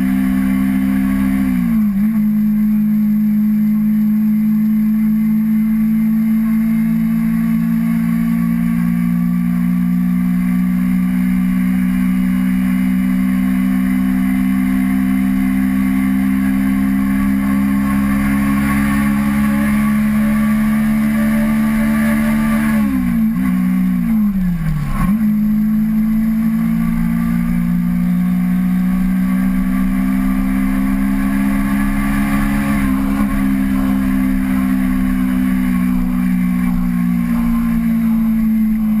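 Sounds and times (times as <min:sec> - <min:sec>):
motorcycle engine running: 0:00.0 - 0:39.0
wind and road noise: 0:00.0 - 0:39.0.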